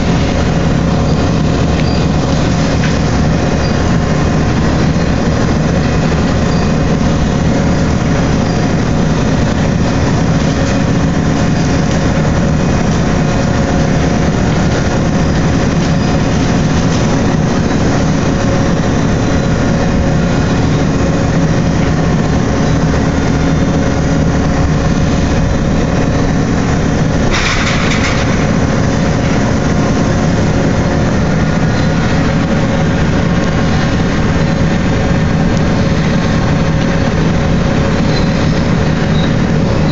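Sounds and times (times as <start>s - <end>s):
heavy machinery drone: 0.0s - 39.9s.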